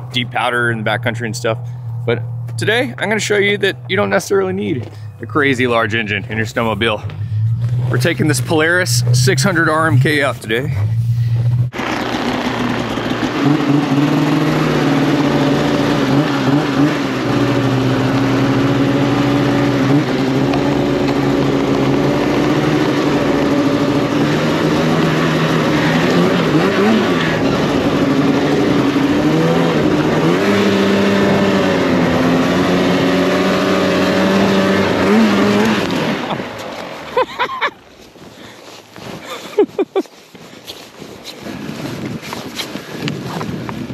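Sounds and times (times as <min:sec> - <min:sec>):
snowmobile engine revving: 0:00.0 - 0:43.6.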